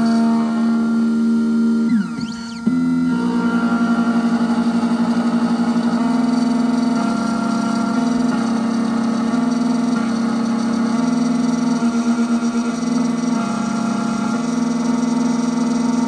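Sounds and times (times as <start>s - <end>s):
key-cutting machine motor whine: 0.0s - 16.0s.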